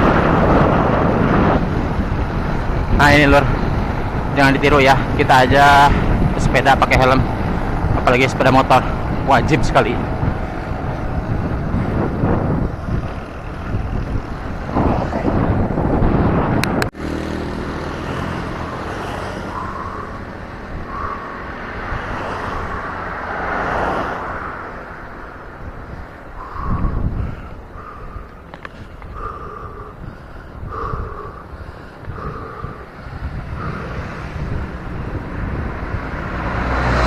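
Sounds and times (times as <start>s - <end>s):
motor vehicles passing: 0.0s - 37.0s.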